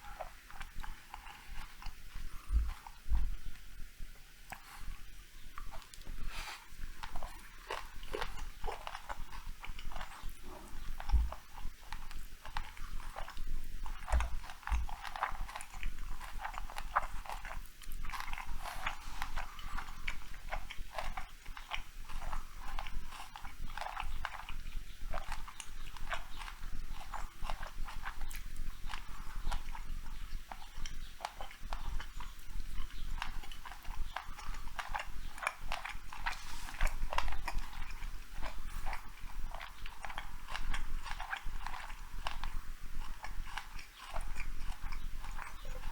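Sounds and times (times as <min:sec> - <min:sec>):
cat chewing wetly: 0:00.0 - 0:45.9.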